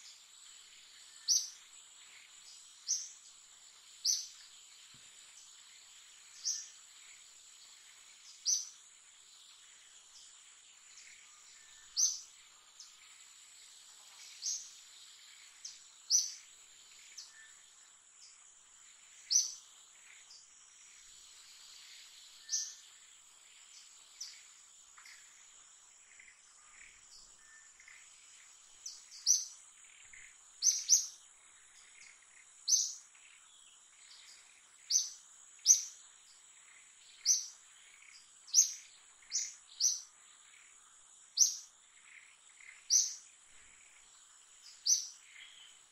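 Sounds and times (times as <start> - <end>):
high-pitched insect whine: 0.0 - 45.9.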